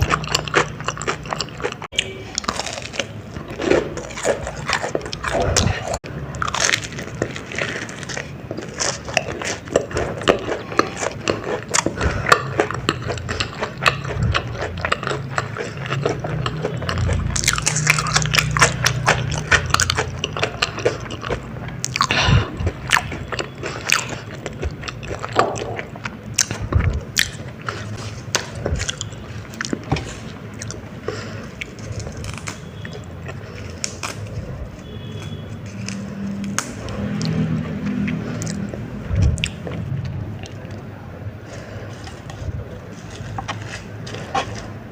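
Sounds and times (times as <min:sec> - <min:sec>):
crunchy biting and chewing: 0:00.0 - 0:40.9.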